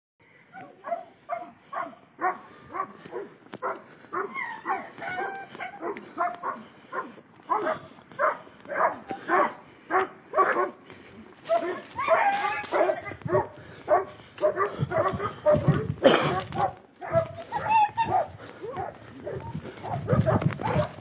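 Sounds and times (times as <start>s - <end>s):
dog barking: 0.5s - 10.8s, 11.4s - 21.0s.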